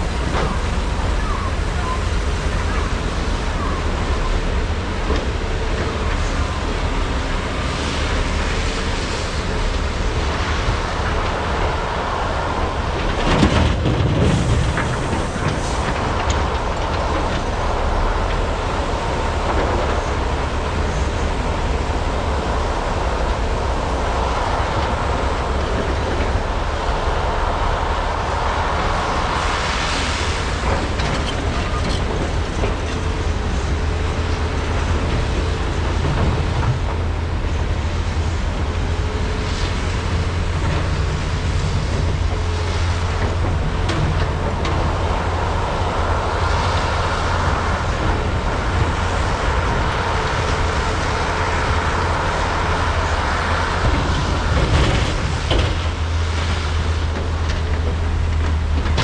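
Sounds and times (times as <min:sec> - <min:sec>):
excavator diesel engines rumbling: 0:00.0 - 0:59.0.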